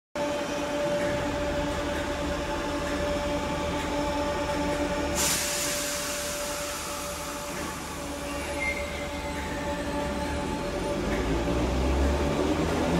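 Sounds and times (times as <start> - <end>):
train equipment humming: 0.2 - 12.9.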